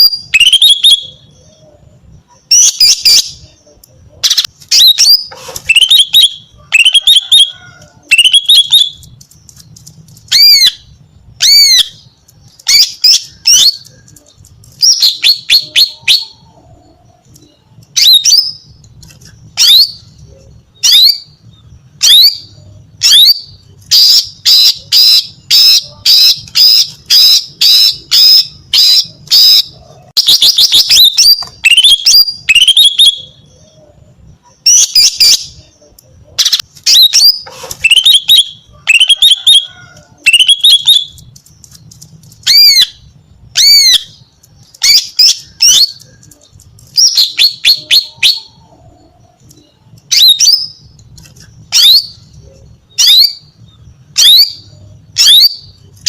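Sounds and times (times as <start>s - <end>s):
bird chirps and whistled notes: 0.0s - 3.6s, 4.2s - 16.6s, 17.2s - 35.8s, 36.4s - 56.0s.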